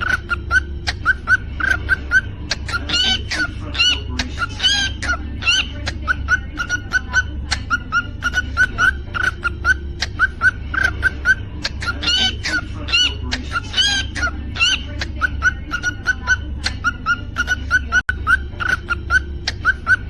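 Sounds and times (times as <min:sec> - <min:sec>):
cockatiel chirping: 0:00.0 - 0:20.0
cockatiel whistled calls: 0:00.0 - 0:20.0
steady low hum: 0:00.0 - 0:20.0.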